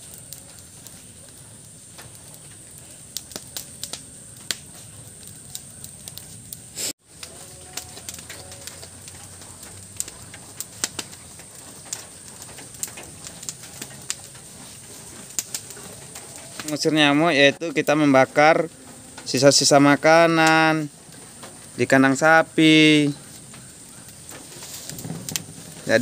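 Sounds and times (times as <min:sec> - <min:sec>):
sharp clicks and rustles: 0:00.0 - 0:17.5, 0:20.4 - 0:26.0
steady high hiss: 0:00.0 - 0:26.0.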